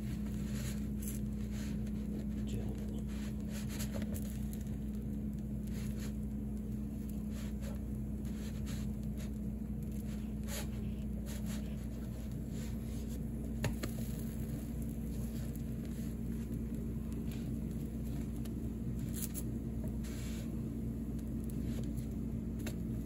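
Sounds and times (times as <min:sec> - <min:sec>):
low hum: 0:00.0 - 0:23.0
batter sizzling on griddle: 0:03.3 - 0:23.0.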